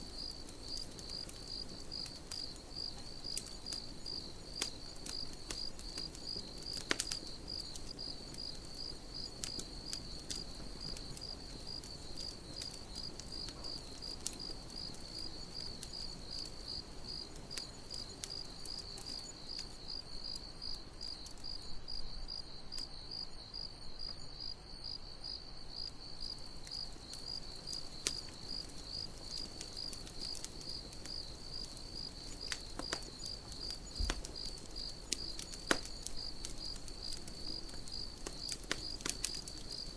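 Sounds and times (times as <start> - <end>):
campfire hissing and crackling: 0.0 - 39.9
crickets chirping: 0.0 - 39.9.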